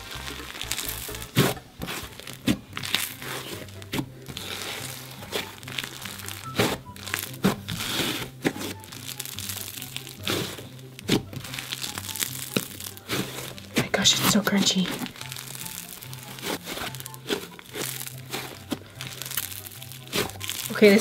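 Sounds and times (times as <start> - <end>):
slime crackling and popping: 0.0 - 21.0.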